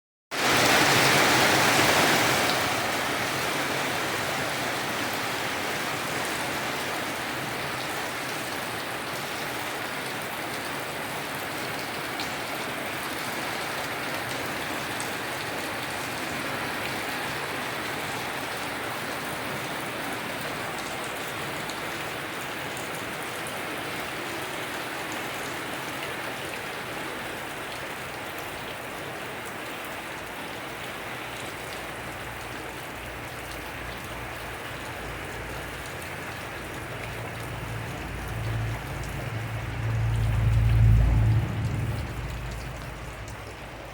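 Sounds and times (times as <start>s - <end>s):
rain on a rooftop: 0.3s - 43.9s.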